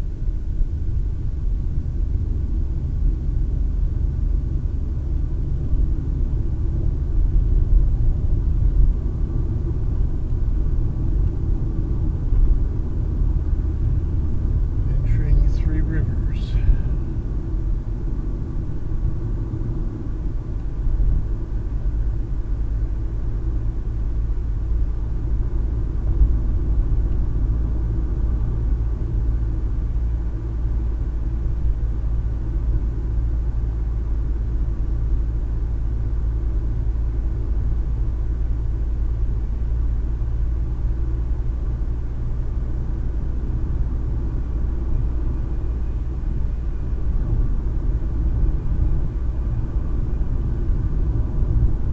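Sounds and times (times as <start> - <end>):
car interior road and engine noise: 0.0 - 51.9.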